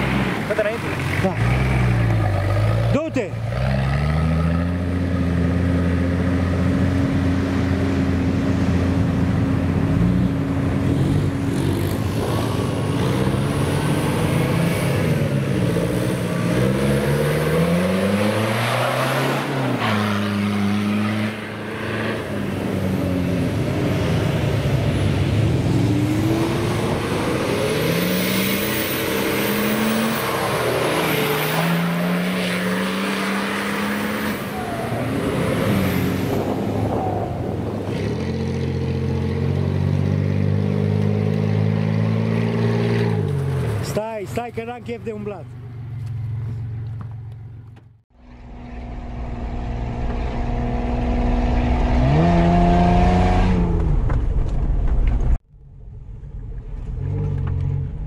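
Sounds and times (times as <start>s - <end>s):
off-road engines revving: 0.0s - 45.4s, 48.3s - 54.1s.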